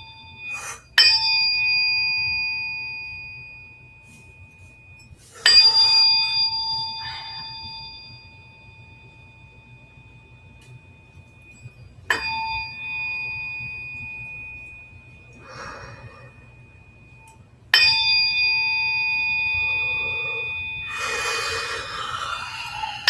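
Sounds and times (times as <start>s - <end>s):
struck metal instrument ringing: 0.0s - 9.4s, 10.3s - 23.0s
soft noisy sounds: 0.0s - 23.0s.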